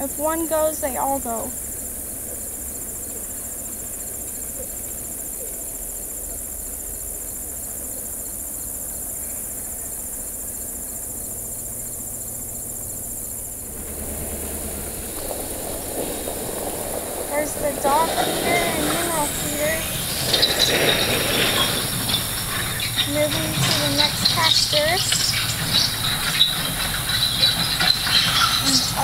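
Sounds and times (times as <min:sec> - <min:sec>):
crickets trilling: 0:00.0 - 0:29.0
road noise: 0:00.0 - 0:29.0
vehicle engine rumble: 0:00.0 - 0:29.0.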